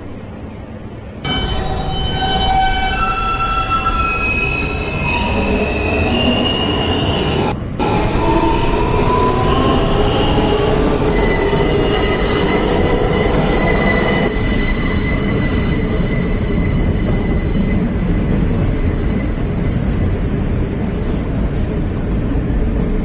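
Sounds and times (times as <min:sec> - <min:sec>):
subway train rumbling: 0:00.0 - 0:23.0
high whining and squealing tones: 0:01.2 - 0:21.4.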